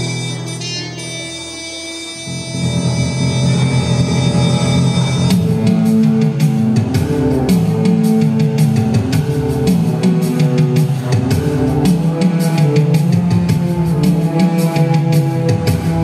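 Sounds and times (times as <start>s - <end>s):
backing music with drum beat: 0.0s - 16.0s.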